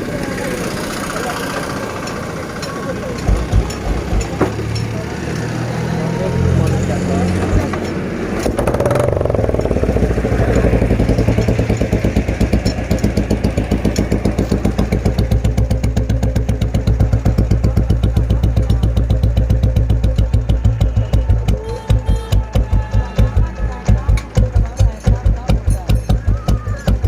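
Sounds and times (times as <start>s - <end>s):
motorcycle engine idling: 0.0s - 5.1s, 8.5s - 27.0s.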